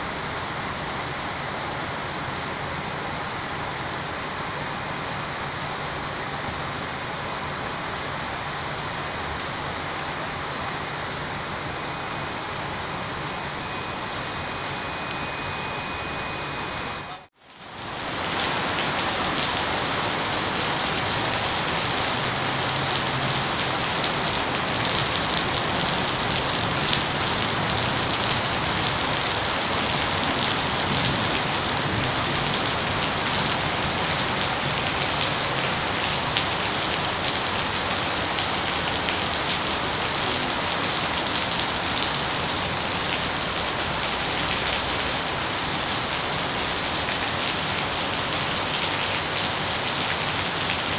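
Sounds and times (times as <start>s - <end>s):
heavy rain hiss: 0.0s - 50.9s.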